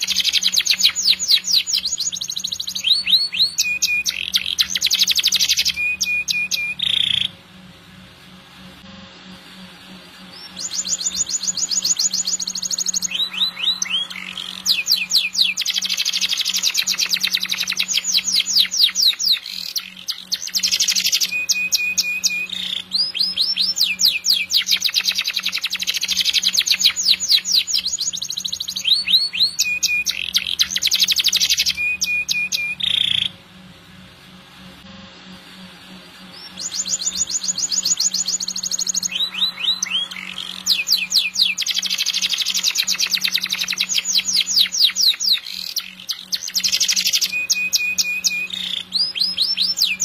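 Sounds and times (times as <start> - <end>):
canary singing trills: 0.0 - 7.4, 10.2 - 33.4, 36.2 - 50.0.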